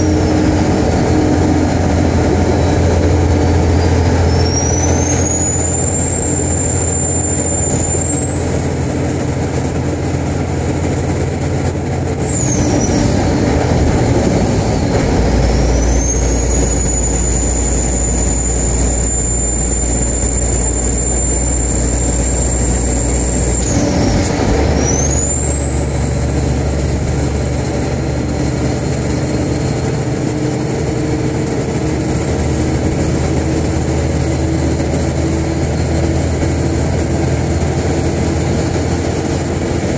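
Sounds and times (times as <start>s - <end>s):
diesel engine droning: 0.0s - 39.9s
turbo whistling: 0.0s - 39.9s.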